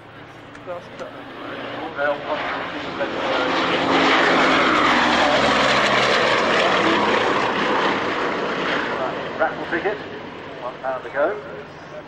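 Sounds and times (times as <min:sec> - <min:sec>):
radial aircraft engines flypast: 0:00.0 - 0:12.0.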